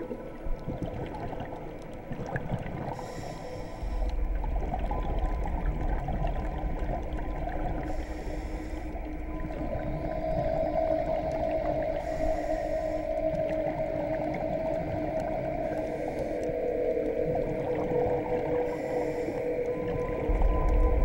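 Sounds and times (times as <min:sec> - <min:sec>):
exhaled bubbles rushing: 0:00.0 - 0:03.2, 0:04.0 - 0:08.1, 0:09.0 - 0:21.0
muffled underwater crackling and rumble: 0:00.0 - 0:21.0.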